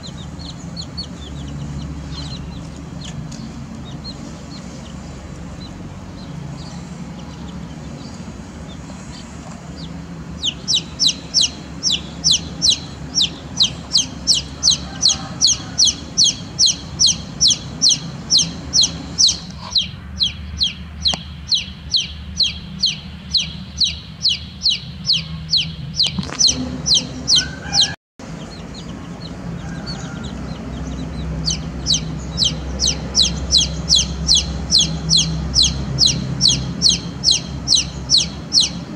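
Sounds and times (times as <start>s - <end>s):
chicks peeping: 0.0s - 38.9s
low steady background hum: 0.0s - 38.9s.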